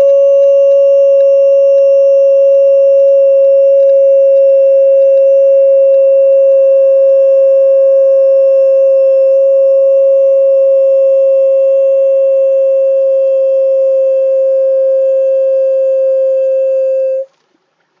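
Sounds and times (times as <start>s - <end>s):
steady held tone: 0.0s - 17.3s.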